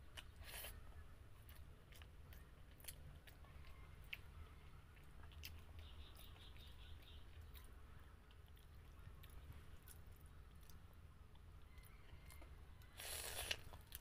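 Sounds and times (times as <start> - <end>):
faint chewing: 0.0 - 14.0
low steady hum: 0.0 - 14.0.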